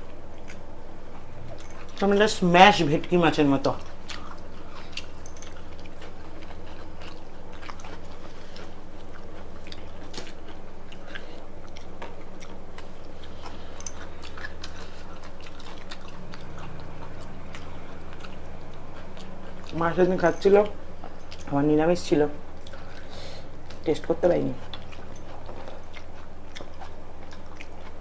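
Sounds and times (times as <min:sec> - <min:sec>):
people chewing and eating: 0:00.0 - 0:28.0
steady low hum: 0:00.0 - 0:28.0
small clicks and mouth sounds: 0:00.3 - 0:02.1, 0:03.7 - 0:21.5, 0:22.5 - 0:28.0.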